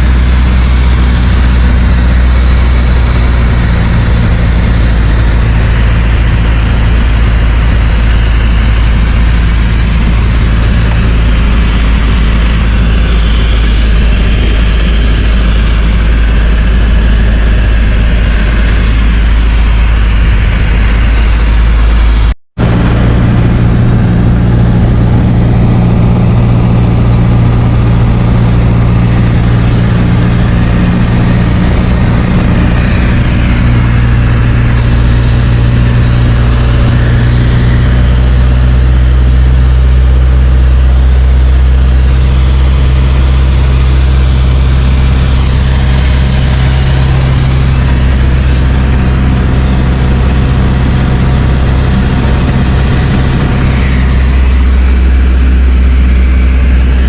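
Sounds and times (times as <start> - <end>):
aircraft engine drone from cabin: 0.0 - 57.0.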